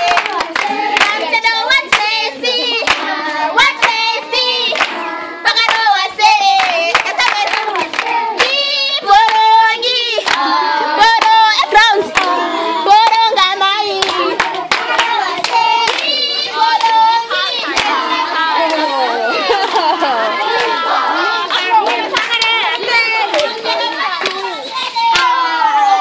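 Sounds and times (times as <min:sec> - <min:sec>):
hands clapping rhythmically: 0:00.0 - 0:25.7
children singing: 0:00.0 - 0:26.0.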